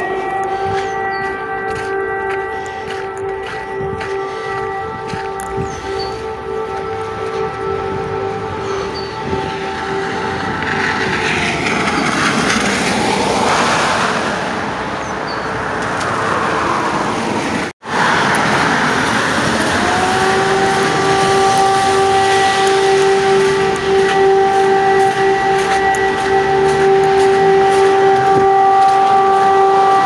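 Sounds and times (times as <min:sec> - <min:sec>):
air-raid siren wailing: 0:00.0 - 0:30.0.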